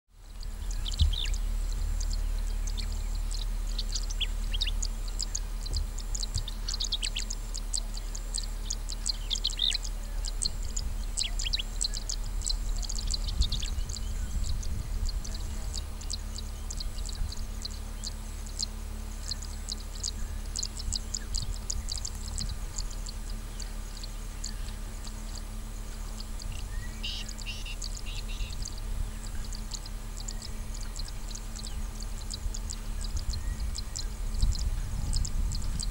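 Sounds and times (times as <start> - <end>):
steady low hum: 0.1 - 35.9
birds chirping: 0.2 - 35.9.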